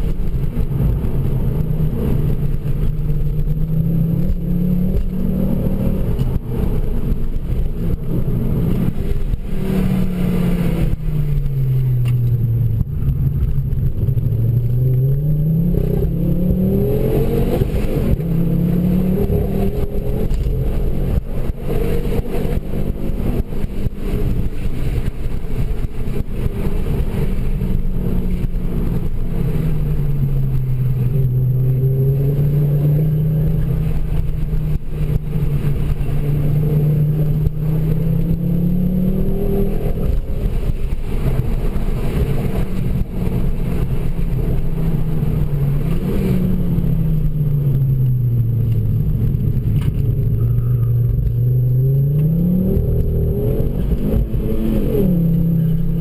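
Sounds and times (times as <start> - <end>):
car engine heard from cabin: 0.0 - 56.0.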